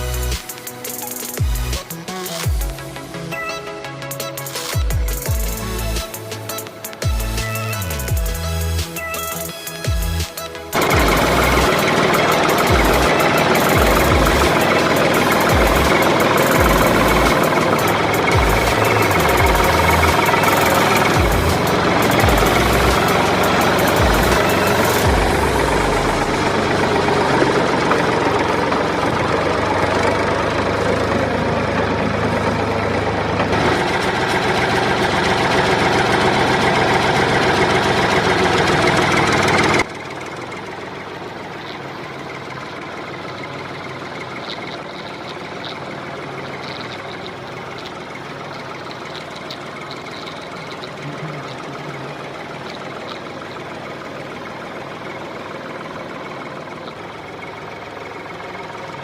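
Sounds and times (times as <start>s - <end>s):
small motor running: 0.0s - 3.2s, 4.2s - 59.0s.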